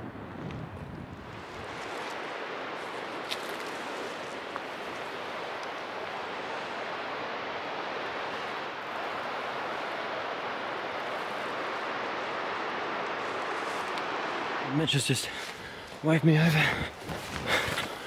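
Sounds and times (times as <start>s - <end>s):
rushing wind: 0.0s - 18.0s.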